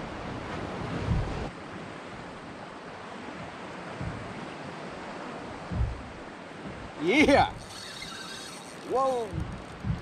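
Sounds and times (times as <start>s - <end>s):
wind on microphone: 0.0s - 2.6s, 3.4s - 10.0s
open water noise: 0.0s - 10.0s.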